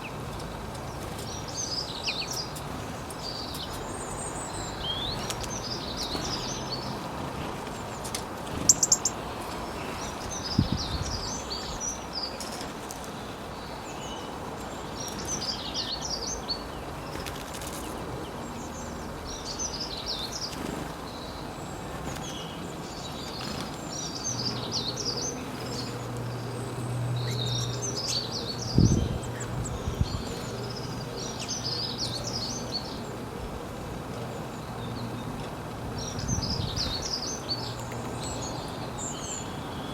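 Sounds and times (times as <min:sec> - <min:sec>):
songbird chirping: 0:00.0 - 0:33.4.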